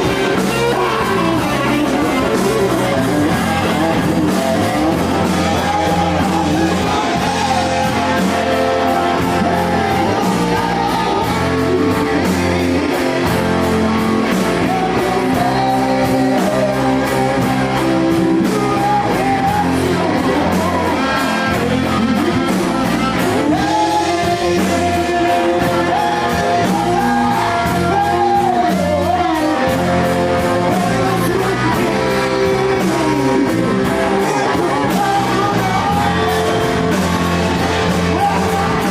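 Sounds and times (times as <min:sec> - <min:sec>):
bass guitar: 0:00.0 - 0:38.9
drums: 0:00.0 - 0:38.9
electric guitars: 0:00.0 - 0:38.9
person singing: 0:00.0 - 0:38.9.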